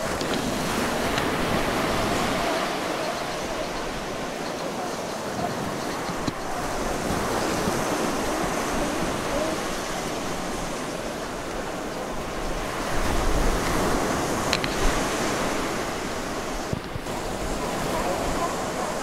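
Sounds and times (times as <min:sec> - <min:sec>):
ocean surf washing against rocks: 0:00.0 - 0:19.0
wind on microphone: 0:00.0 - 0:19.0.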